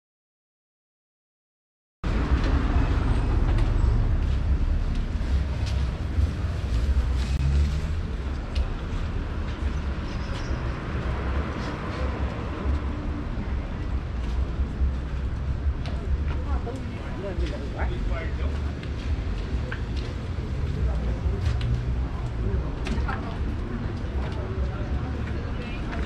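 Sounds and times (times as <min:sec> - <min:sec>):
outdoor noise: 0:02.0 - 0:26.0
traffic rumble: 0:02.0 - 0:26.0.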